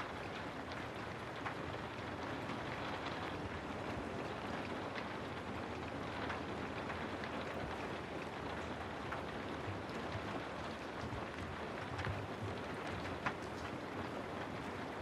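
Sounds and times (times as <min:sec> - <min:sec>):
faint rain drop ticks: 0:00.0 - 0:15.0.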